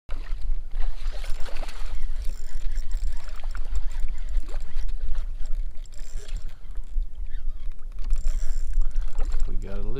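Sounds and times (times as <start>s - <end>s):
water splashing and trickling: 0.1s - 9.9s.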